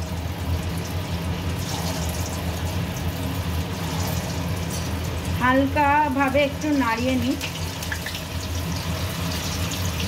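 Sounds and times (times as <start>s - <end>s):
hot oil sizzling and bubbling: 0.0s - 10.0s.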